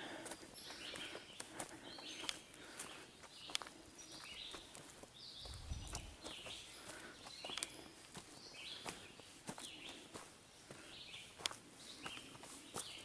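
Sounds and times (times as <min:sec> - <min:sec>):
footsteps on dry leaves: 0:00.2 - 0:13.0.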